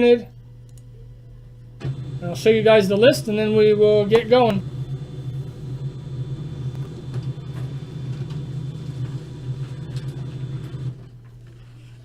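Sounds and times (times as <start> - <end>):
printer motor hum: 1.8 - 12.0.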